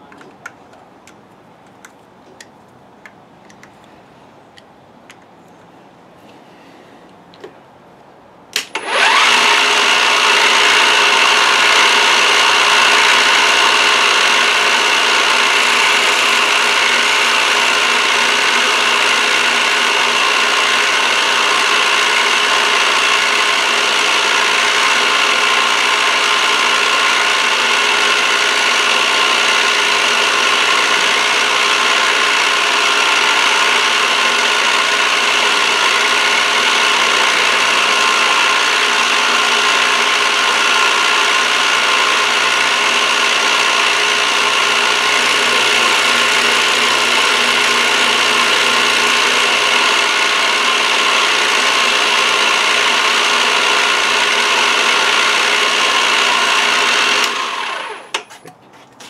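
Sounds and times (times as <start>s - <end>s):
milling machine whine: 8.7s - 58.3s.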